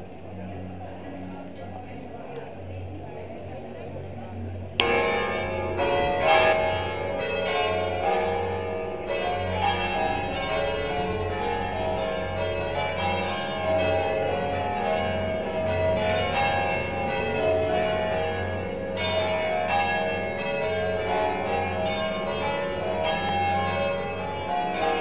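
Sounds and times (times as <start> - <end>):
church bells pealing: 4.8 - 25.0.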